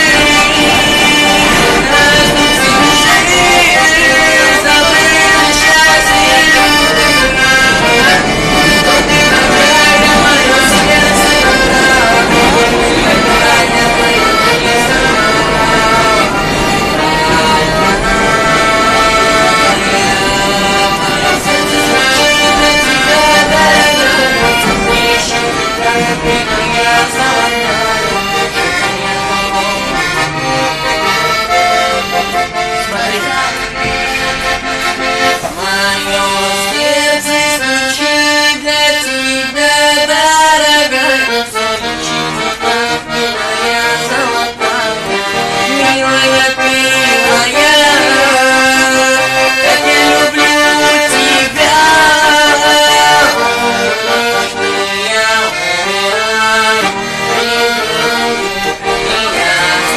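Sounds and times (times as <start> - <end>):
button accordion playing melody: 0.0 - 59.9.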